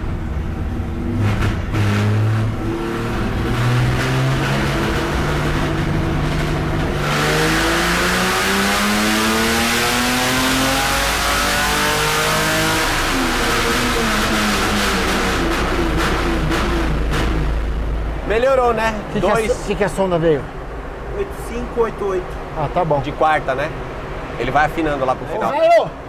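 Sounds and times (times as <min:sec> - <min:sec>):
car engine revving at full throttle: 0:00.0 - 0:25.5.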